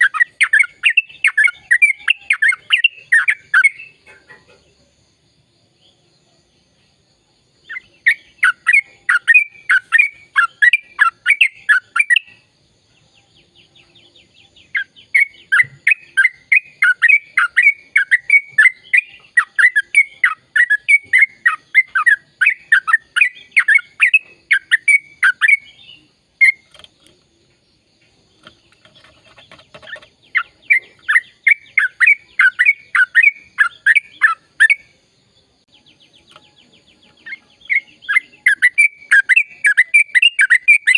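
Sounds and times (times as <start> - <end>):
bird singing rapid downward notes: 0.0 - 4.2, 7.6 - 12.5, 13.4 - 27.2, 28.4 - 40.9
soft bird chatter: 0.0 - 40.9.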